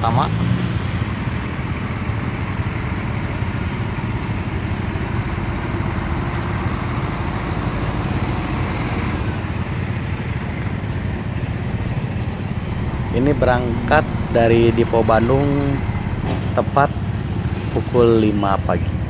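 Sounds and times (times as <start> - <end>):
diesel truck engine running: 0.0 - 19.0
motorcycles idling: 0.0 - 19.0.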